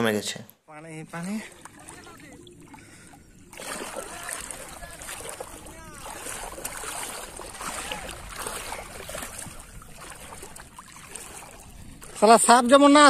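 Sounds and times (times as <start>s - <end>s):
floodwater sloshing and trickling: 0.7s - 13.0s.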